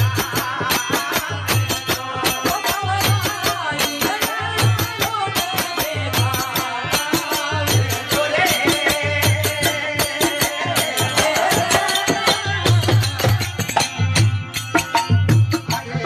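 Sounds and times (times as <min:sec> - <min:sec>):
harmonium melody: 0:00.0 - 0:16.0
jingling hand percussion: 0:00.0 - 0:16.0.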